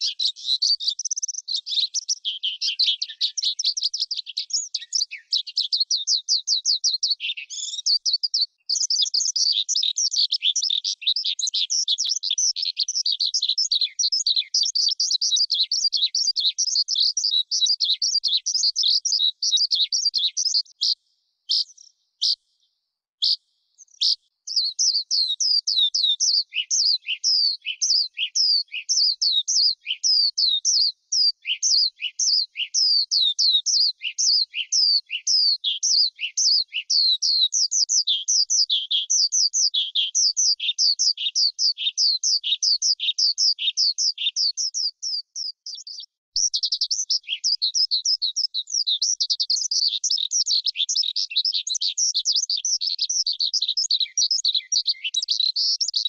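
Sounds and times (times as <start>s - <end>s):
skylark song: 0.0s - 56.0s.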